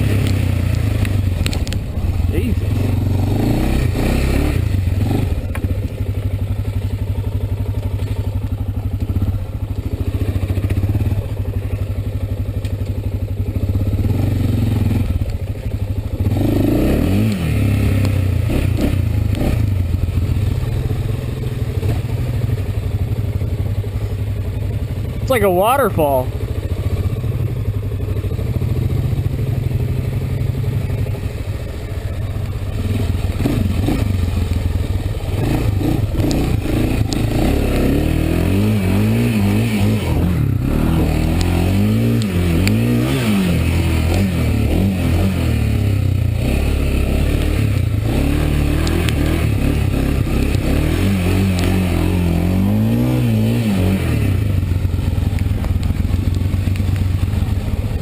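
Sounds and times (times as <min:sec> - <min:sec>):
atv engine revving: 0:00.0 - 0:25.2, 0:26.3 - 0:58.0.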